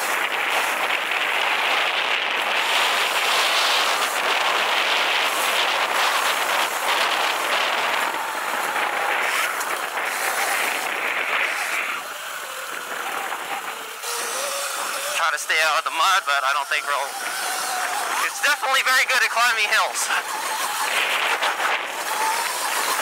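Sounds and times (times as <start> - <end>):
dirt bike riding noise: 0.0 - 23.0
faint electric motor whine: 0.0 - 23.0.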